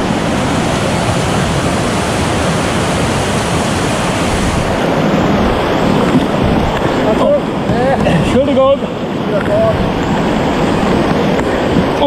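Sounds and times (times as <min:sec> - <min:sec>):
rapids rushing: 0:00.0 - 0:12.0.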